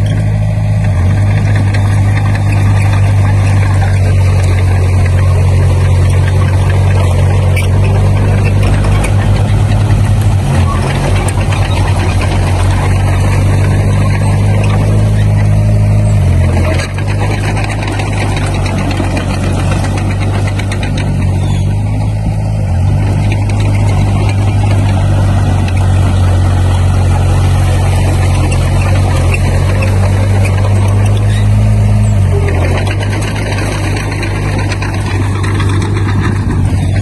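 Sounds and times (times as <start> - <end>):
heavy machinery diesel engine: 0.0 - 37.0.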